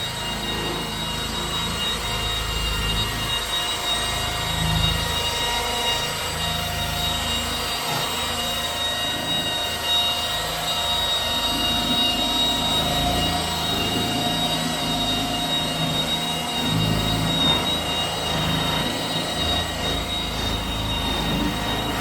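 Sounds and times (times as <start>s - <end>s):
polisher motor whine: 0.0s - 22.0s.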